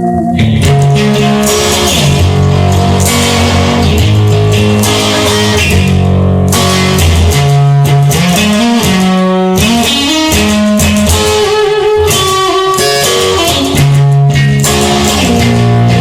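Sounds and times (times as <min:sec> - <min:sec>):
bass line: 0:00.0 - 0:16.0
electric guitar: 0:00.0 - 0:16.0.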